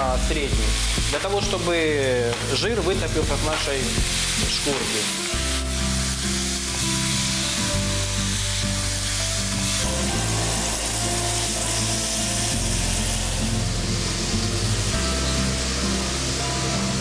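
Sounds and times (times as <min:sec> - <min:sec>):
background music of held notes: 0:00.0 - 0:17.0
meat sizzling in a frying pan: 0:00.0 - 0:17.0.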